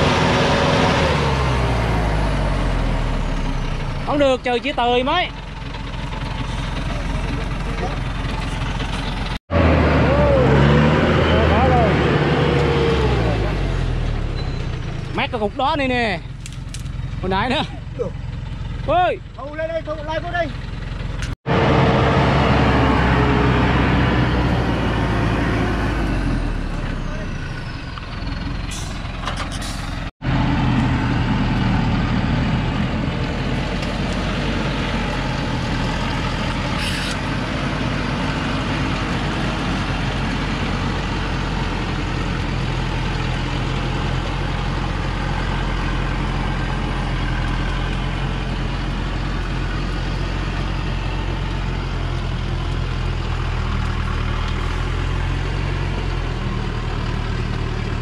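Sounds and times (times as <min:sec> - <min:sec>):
diesel truck engine under load: 0:00.0 - 0:58.0.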